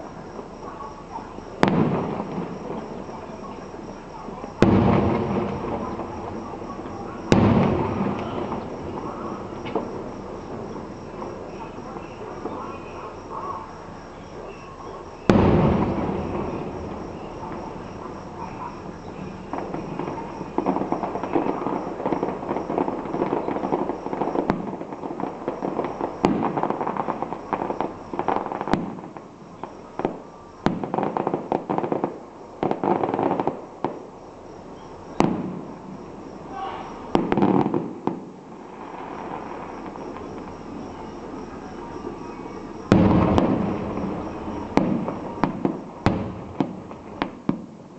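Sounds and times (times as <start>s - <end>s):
fireworks big bangs: 0.0s - 47.9s
fireworks crackling bursts: 0.0s - 47.9s.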